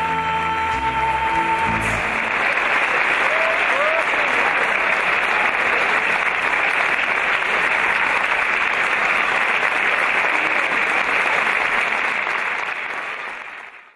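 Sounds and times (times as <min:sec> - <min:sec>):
audience applauding: 0:01.6 - 0:13.9.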